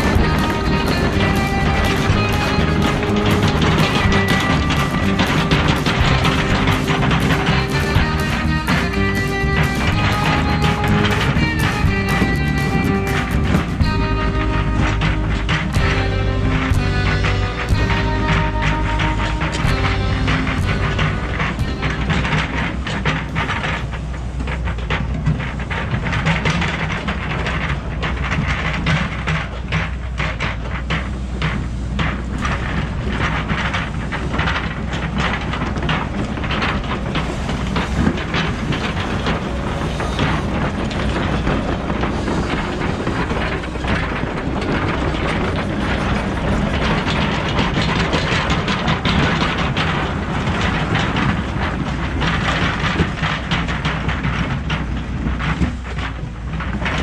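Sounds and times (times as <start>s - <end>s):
excavator diesel engine running: 0.0s - 57.0s
steel clanking and scraping on rock: 0.0s - 57.0s.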